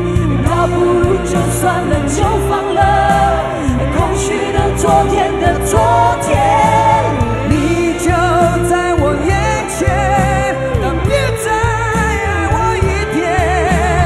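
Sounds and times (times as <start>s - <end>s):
live band drums and bass: 0.0s - 14.0s
man and woman singing: 0.0s - 14.0s.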